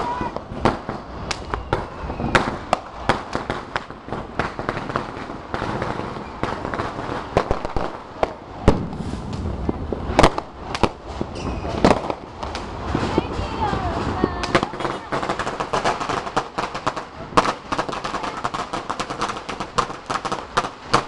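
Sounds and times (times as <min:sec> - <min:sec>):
firecrackers banging and crackling: 0:00.0 - 0:21.0.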